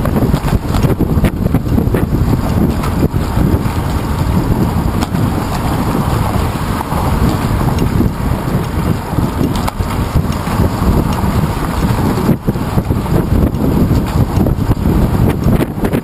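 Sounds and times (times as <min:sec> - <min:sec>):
road traffic: 0:00.0 - 0:16.0
wind buffeting microphone: 0:00.0 - 0:16.0.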